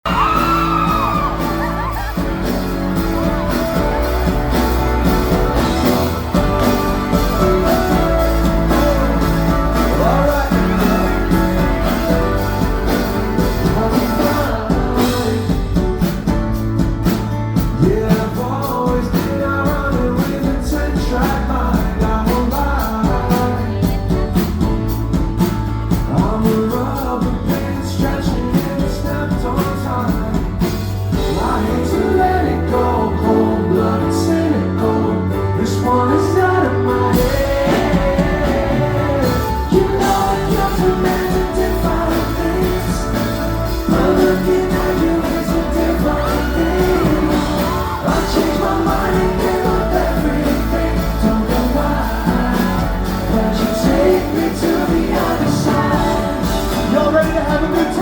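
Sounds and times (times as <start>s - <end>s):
crowd: 0.0s - 58.0s
live pop-rock band: 0.0s - 58.0s
man singing lead vocal: 0.0s - 58.0s.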